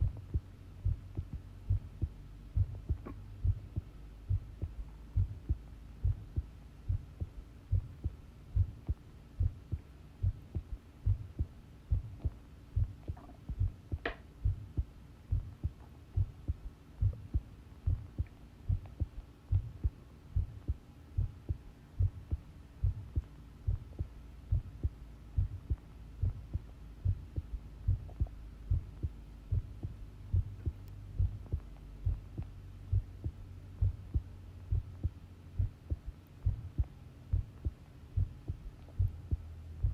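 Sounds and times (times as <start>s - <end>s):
faint steady hum: 0.0s - 39.9s
heartbeat: 0.0s - 39.9s.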